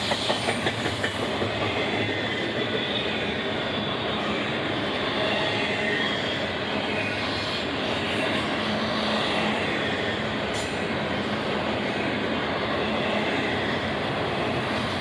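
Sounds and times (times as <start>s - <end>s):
freight train wheels on track: 0.0s - 15.0s.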